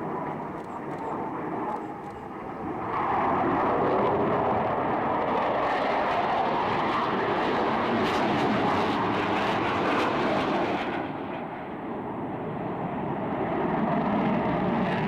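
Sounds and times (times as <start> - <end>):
jet roar: 0.0 - 15.0.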